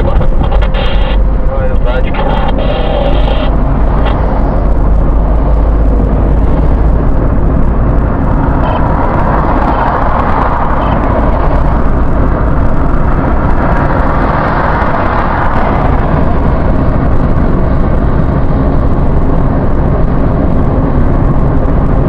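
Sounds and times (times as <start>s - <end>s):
car interior road noise: 0.0s - 22.0s.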